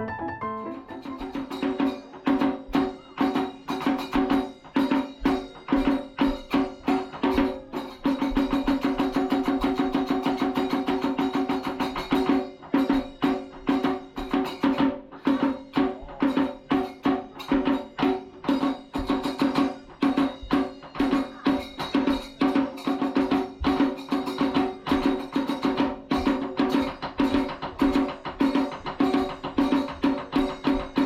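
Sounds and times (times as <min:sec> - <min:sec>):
sharp drum strikes: 0:00.0 - 0:31.0.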